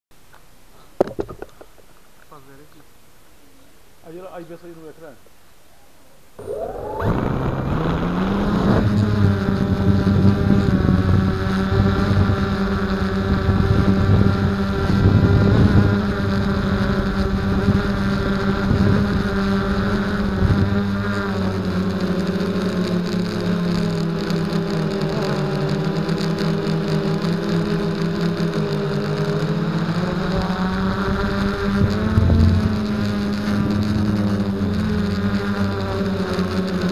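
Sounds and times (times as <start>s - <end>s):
quadcopter motors and propellers whine: 6.4s - 36.9s.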